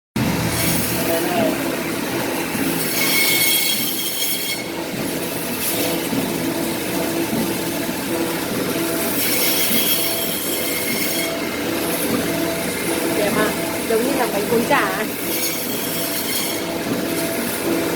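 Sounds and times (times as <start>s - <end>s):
meat slicer running: 0.2s - 17.9s.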